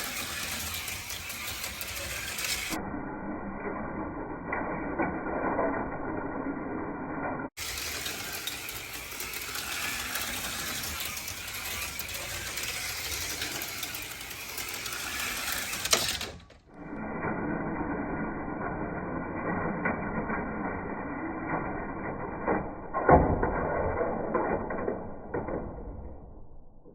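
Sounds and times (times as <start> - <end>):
slot cars whirring and rattling: 0.0 - 23.2.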